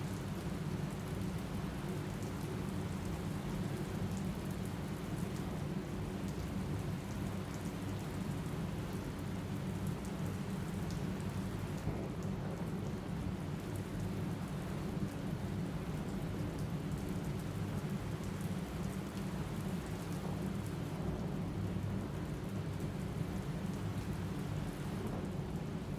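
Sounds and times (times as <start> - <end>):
steady rain: 0.0 - 25.9.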